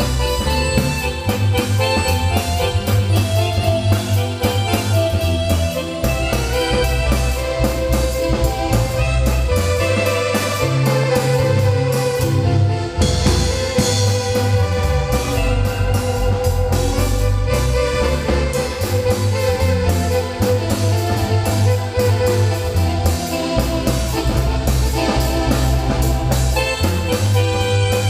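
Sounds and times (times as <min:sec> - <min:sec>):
drum kit steady beat: 0:00.0 - 0:28.0
marimba band dance music: 0:00.0 - 0:28.0.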